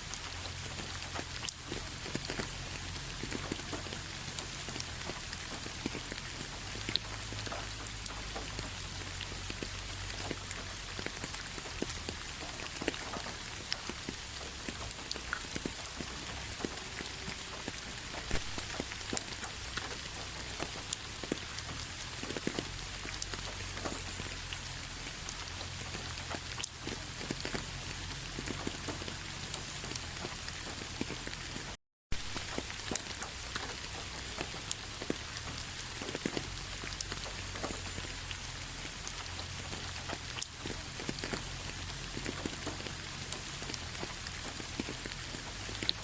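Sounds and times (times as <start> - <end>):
raindrops clicking and tapping: 0.0 - 46.0
steady rain hiss: 0.0 - 46.0.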